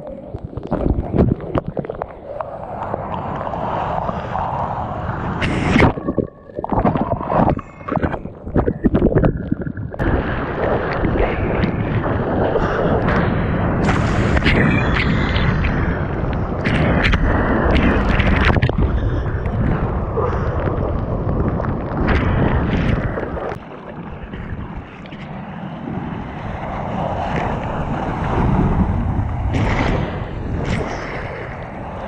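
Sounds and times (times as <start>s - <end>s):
breaking surf and rushing water: 0.0s - 32.0s
wind buffeting microphone: 0.0s - 32.0s.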